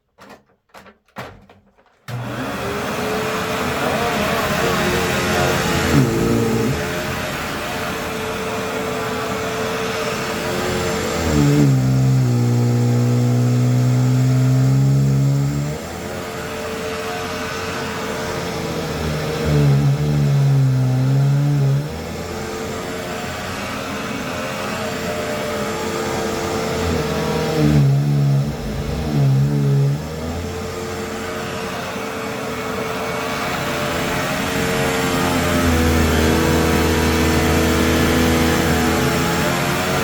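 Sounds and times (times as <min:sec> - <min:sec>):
vacuum cleaner running on carpet: 0:02.1 - 0:40.0.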